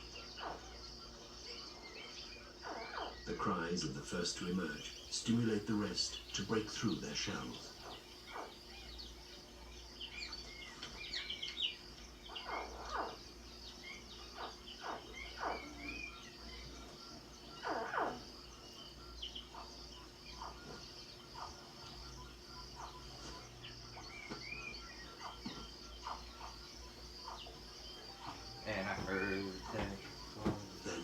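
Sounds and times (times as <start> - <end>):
birds: 0.0 - 31.0
insects: 0.0 - 31.0.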